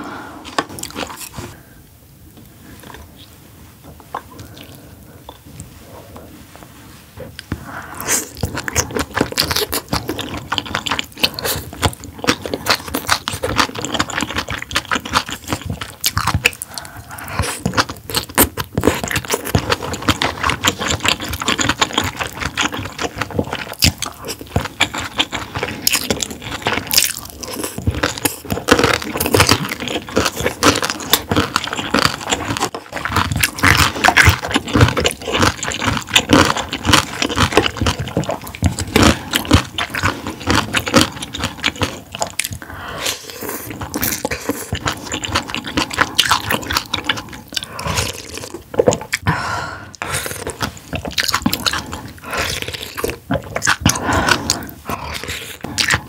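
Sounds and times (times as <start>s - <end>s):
person chewing food: 0.0s - 6.4s, 7.2s - 56.0s.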